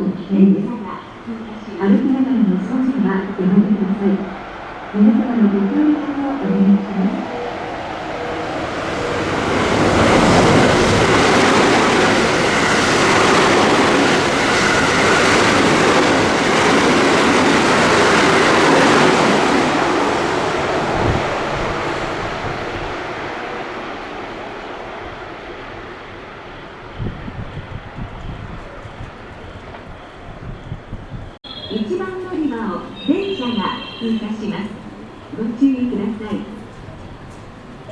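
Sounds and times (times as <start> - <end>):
train passing at speed: 0.0 - 37.9.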